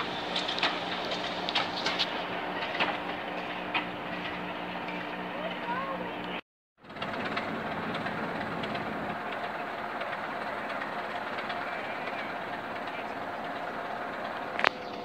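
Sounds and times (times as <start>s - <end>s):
diesel locomotive engine running: 0.0s - 15.0s
wheel and rail noise: 0.0s - 15.0s.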